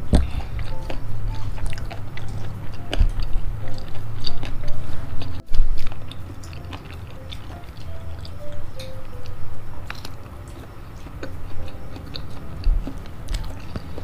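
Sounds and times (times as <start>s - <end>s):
low steady hum: 0.0s - 14.0s
wet chewing and mouth clicks: 0.0s - 14.0s.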